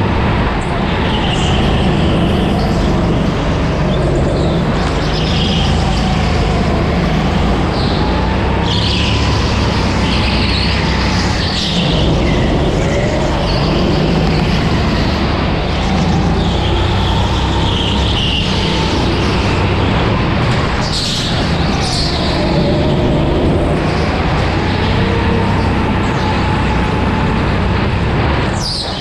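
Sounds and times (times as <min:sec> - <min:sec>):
go-kart engine running hard: 0:00.0 - 0:29.0.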